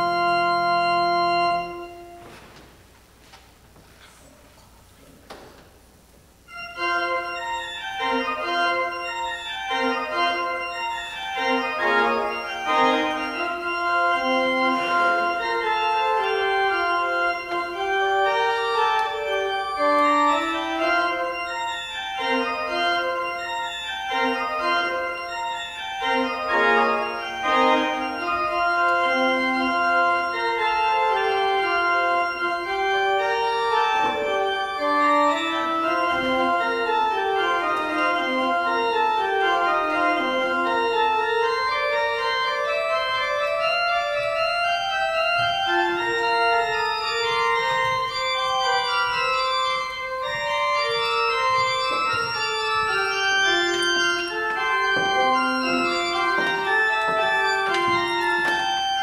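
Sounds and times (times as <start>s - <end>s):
church organ playing chords: 0.0s - 2.5s, 6.4s - 59.0s.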